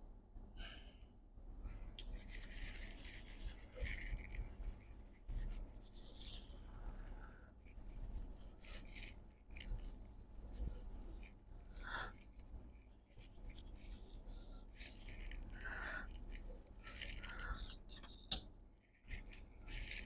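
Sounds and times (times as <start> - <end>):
brush scrubbing circuit board: 2.2 - 20.0.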